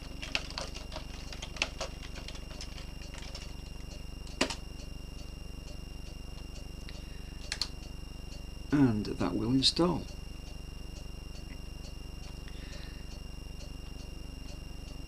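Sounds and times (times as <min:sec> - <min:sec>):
electrical hum and buzz: 0:00.0 - 0:15.0.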